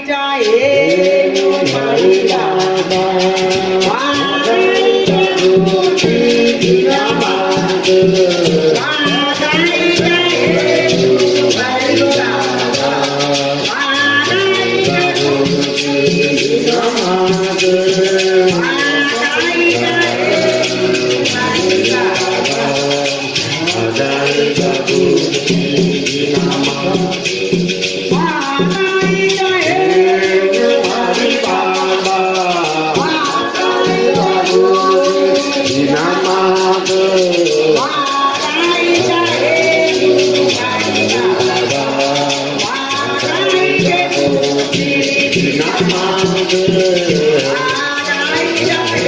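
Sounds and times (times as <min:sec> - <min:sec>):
group singing a hymn: 0:00.0 - 0:49.0
hand rattles shaking: 0:00.4 - 0:49.0.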